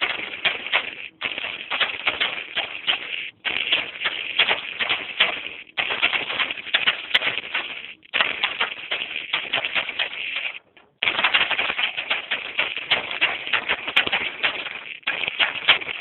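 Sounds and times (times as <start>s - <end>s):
rapid clattering clicks: 0.0s - 16.0s.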